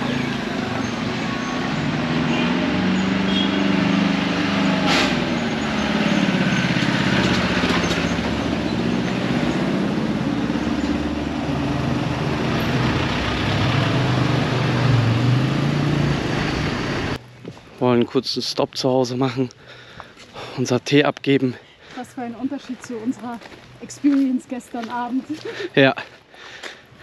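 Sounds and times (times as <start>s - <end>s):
vehicles passing: 0.0s - 27.0s.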